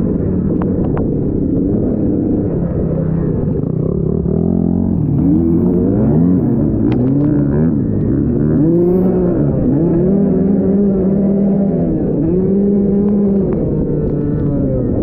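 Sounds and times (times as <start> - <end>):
dirt bike engine revving: 1.6 - 15.0.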